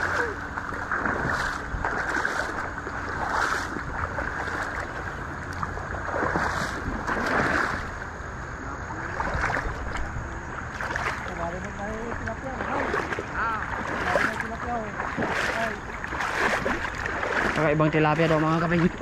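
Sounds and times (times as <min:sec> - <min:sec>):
river water splashing: 0:00.0 - 0:19.0
wind rumble on microphone: 0:00.0 - 0:19.0.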